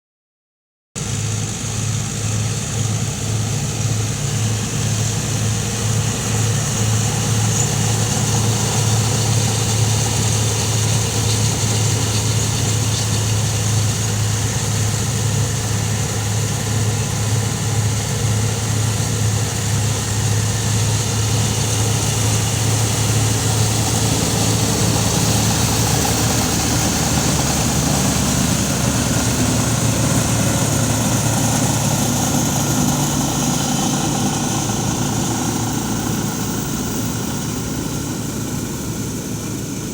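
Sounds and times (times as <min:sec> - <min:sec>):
tractor engine running: 0:01.0 - 0:39.9.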